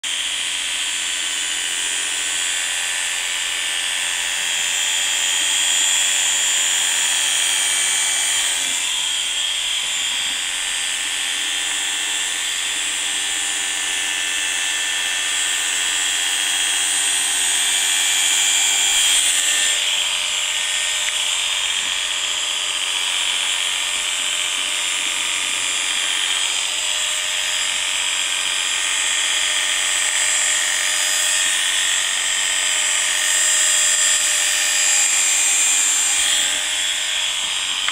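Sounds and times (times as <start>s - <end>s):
electric clippers buzzing: 0.0s - 37.9s.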